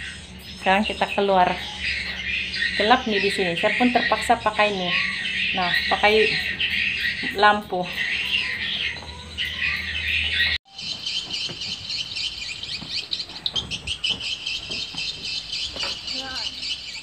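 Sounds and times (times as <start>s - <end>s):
swiftlets twittering: 0.0s - 17.0s.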